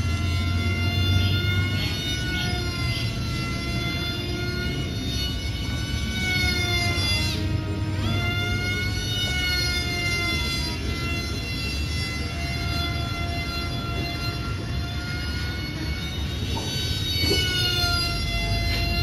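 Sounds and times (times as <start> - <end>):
electric plane motor whining: 0.0 - 19.0.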